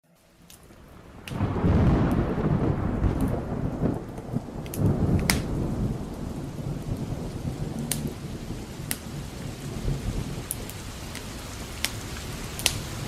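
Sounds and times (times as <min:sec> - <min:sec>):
fireplace fire crackles: 0:00.0 - 0:13.0
steady rain: 0:00.0 - 0:13.0
rolling thunder: 0:00.8 - 0:13.0.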